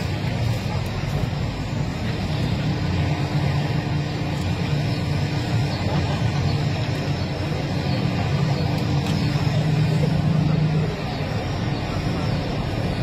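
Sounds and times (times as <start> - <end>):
constant hum: 0.0 - 13.0
low mechanical rumble: 0.0 - 13.0.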